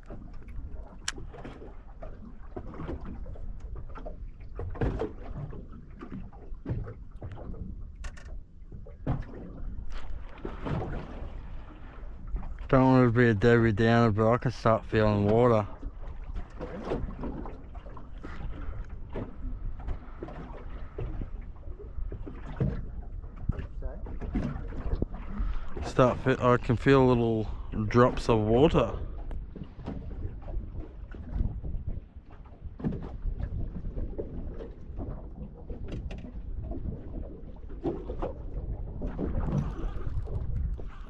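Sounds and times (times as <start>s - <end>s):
water lapping around boat: 0.0s - 41.0s
wind rumbling on microphone: 0.0s - 41.0s.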